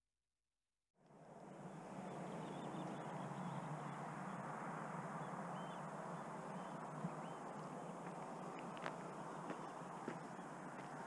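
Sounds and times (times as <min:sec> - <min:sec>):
rushing background noise: 0:01.2 - 0:11.0
small birds chirping: 0:01.5 - 0:11.0.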